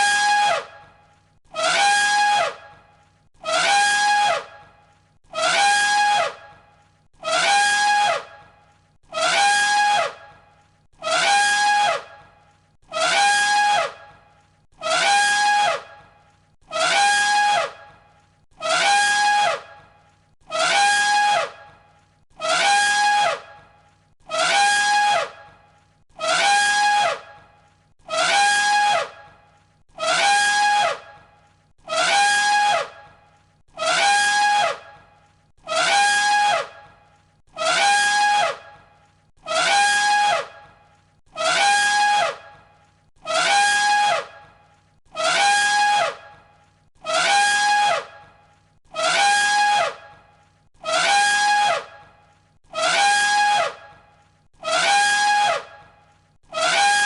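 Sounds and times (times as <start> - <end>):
elephant trumpet call: 1.5 - 2.8, 3.4 - 4.6, 5.3 - 6.5, 7.2 - 8.5, 9.1 - 10.4, 11.0 - 12.3, 12.9 - 14.1, 14.8 - 16.0, 16.7 - 18.0, 18.6 - 19.9, 20.5 - 25.6, 26.2 - 29.4, 30.0 - 31.2, 31.9 - 33.2, 33.8 - 38.8, 39.4 - 54.0, 54.6 - 57.0.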